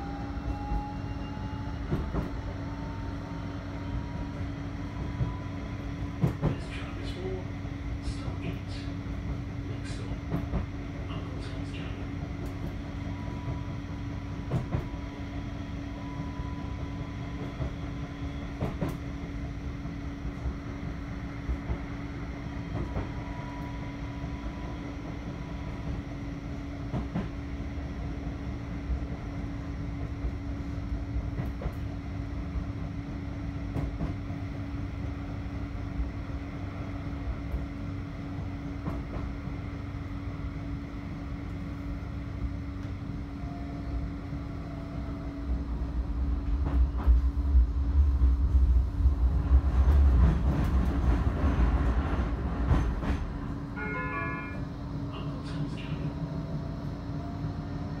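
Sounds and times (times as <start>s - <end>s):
tram rumbling along track: 0.0s - 58.0s.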